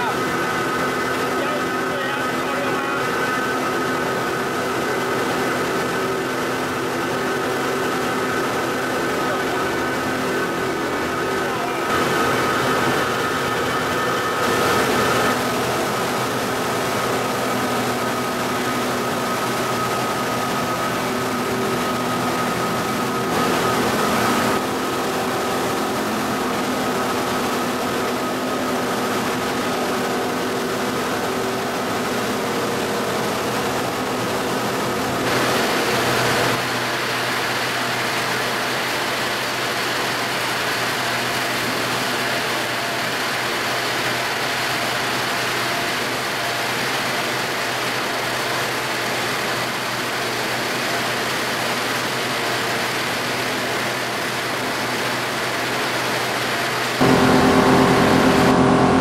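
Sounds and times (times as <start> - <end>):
machinery humming: 0.0 - 51.2, 52.6 - 59.0.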